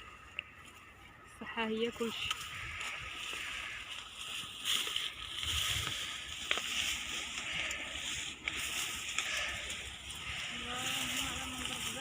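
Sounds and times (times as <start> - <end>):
wind rumbling on microphone: 2.0 - 12.0.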